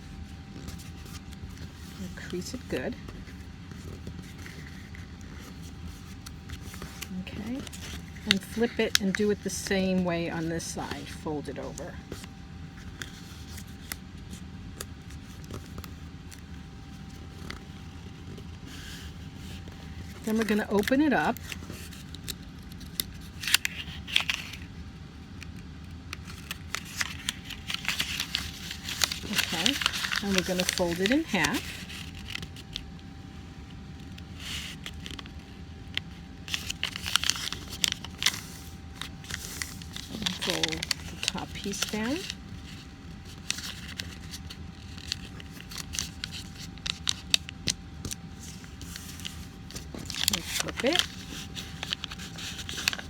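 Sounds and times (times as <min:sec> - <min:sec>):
steady low hum: 0:00.0 - 0:53.0
paper crinkling and tapping: 0:00.1 - 0:24.7, 0:25.3 - 0:53.0.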